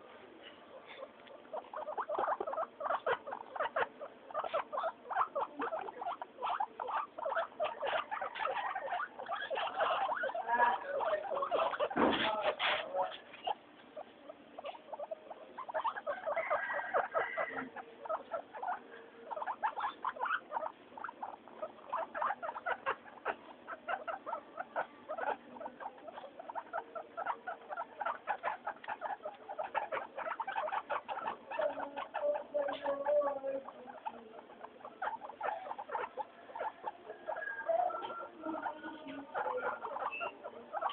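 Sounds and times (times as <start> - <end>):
guinea pigs squeaking: 0.0 - 40.9.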